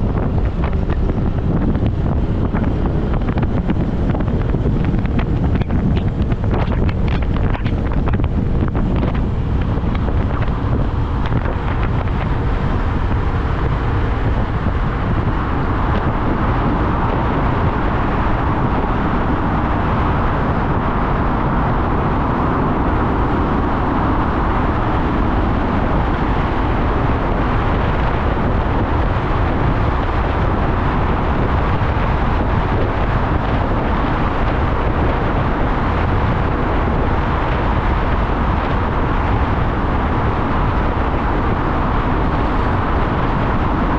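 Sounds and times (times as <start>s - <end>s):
wind noise on microphone: 0.0s - 43.9s.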